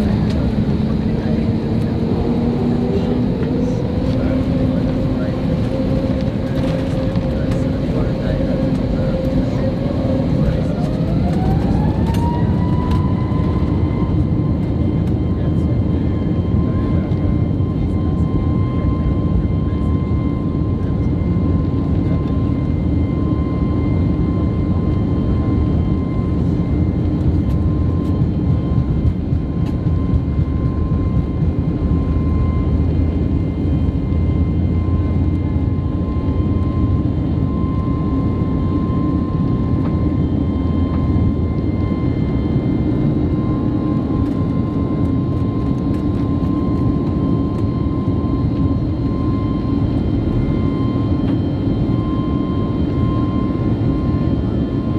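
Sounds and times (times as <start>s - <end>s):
airflow and jet engines rushing: 0.0s - 54.9s.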